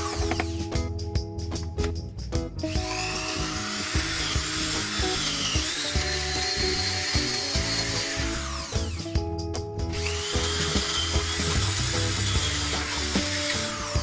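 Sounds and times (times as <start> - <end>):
power tool whine: 0.0 - 0.7, 2.7 - 9.2, 9.9 - 14.0
background music: 0.0 - 14.0.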